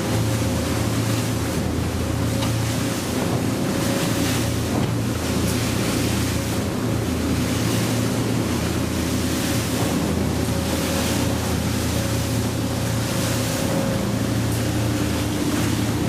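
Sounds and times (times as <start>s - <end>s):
motorboat engine drone: 0.0s - 16.0s
water rushing and splashing: 0.0s - 16.0s
wind buffeting microphone: 0.0s - 16.0s.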